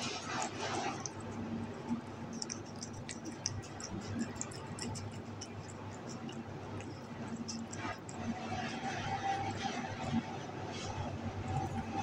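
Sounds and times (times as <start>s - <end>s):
kitten licking and chewing: 0.0s - 12.0s
low steady hum: 0.0s - 12.0s.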